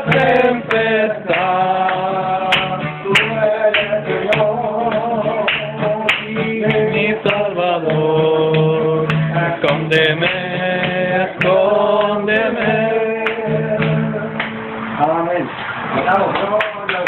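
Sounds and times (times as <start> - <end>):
man singing: 0.0 - 14.4
acoustic guitar strumming: 0.0 - 17.0.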